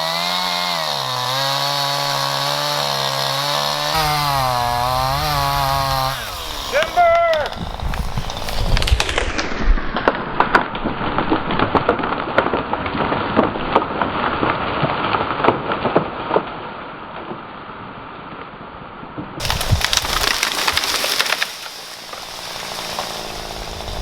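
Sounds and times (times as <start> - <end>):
wood cracking and branches snapping: 0.0 - 16.6, 19.4 - 24.0.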